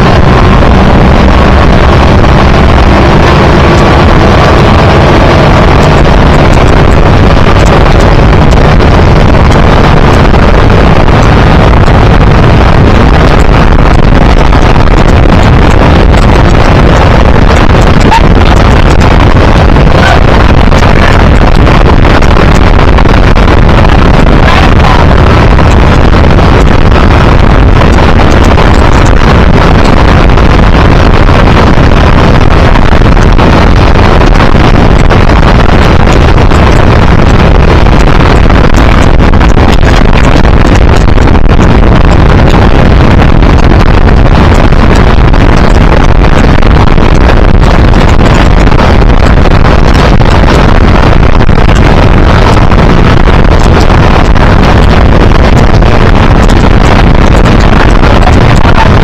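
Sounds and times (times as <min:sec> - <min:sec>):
churning wake: 0:00.0 - 0:50.3
motorboat engine: 0:00.0 - 0:59.0
wind buffeting microphone: 0:00.0 - 0:59.0.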